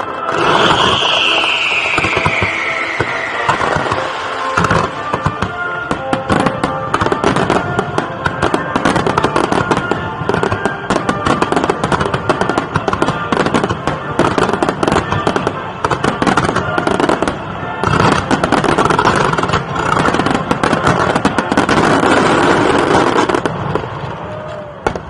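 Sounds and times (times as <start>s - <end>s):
falling firework whistle: 0.0s - 25.0s
fireworks crackling and popping: 0.0s - 25.0s.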